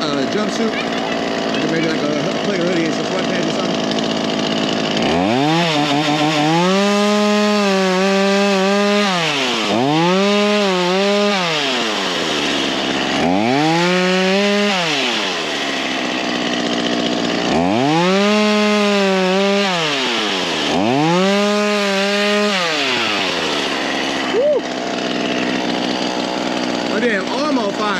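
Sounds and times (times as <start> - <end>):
chainsaw revving: 0.0 - 27.9.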